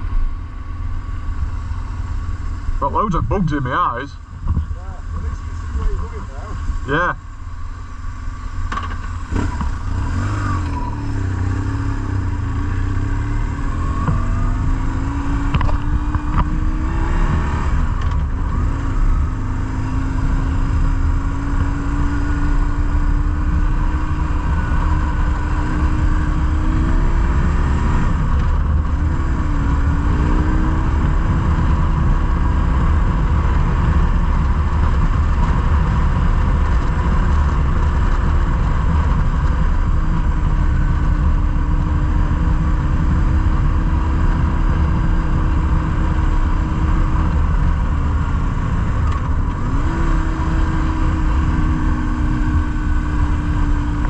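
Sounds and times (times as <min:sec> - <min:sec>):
motorcycle engine accelerating: 0:00.0 - 0:54.0
wind rumble on microphone: 0:04.2 - 0:06.9, 0:08.1 - 0:54.0.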